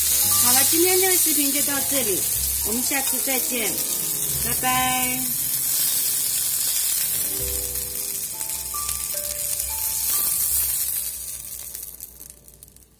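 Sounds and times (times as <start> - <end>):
gentle background music: 0.0 - 12.9
meat sizzling in a pan: 0.0 - 12.9.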